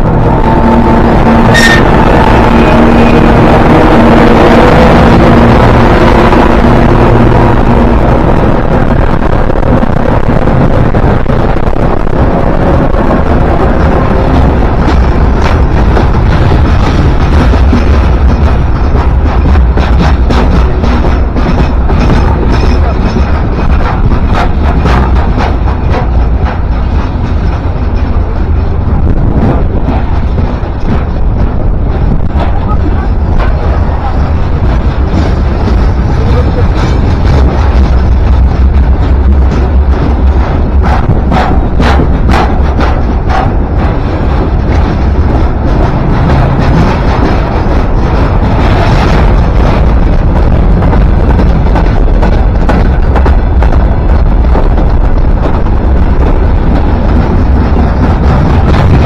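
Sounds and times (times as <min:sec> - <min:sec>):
engine hum: 0:00.0 - 0:59.0
train rumbling past: 0:00.0 - 0:59.0
train wheels clicking: 0:00.0 - 0:59.0.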